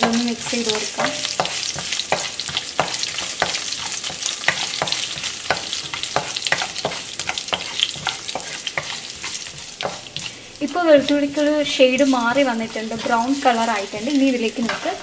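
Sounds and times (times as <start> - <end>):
garlic frying in oil: 0.0 - 15.0
wooden spatula scraping pan: 0.0 - 15.0.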